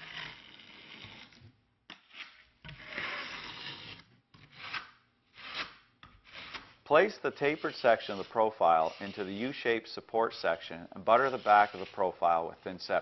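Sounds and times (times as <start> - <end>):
trowel scraping mortar: 0.0 - 13.0.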